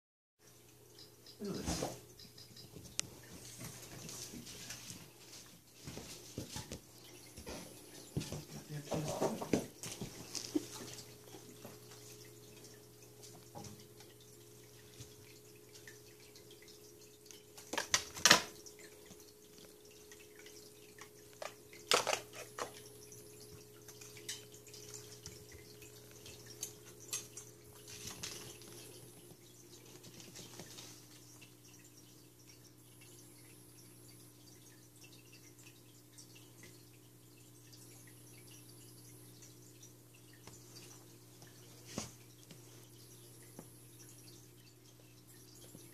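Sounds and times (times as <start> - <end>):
faint steady hum: 0.4 - 45.9.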